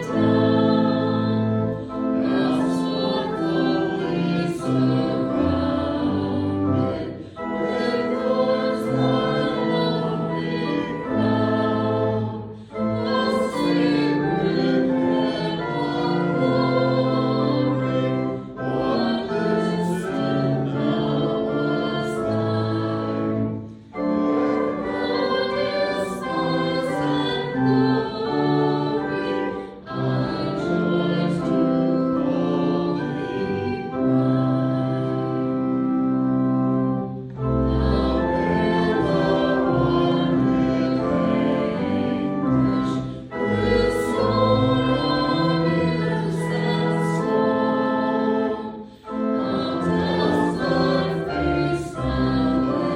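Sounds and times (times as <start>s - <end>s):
congregation singing a hymn: 0.0s - 52.9s
instrumental accompaniment: 0.0s - 52.9s.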